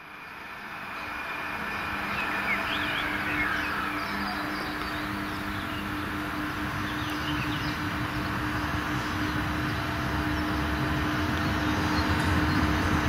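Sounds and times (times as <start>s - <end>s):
faint birds chirping: 0.0s - 13.0s
train electrical hum: 0.0s - 13.0s
train low rumble: 0.0s - 13.0s.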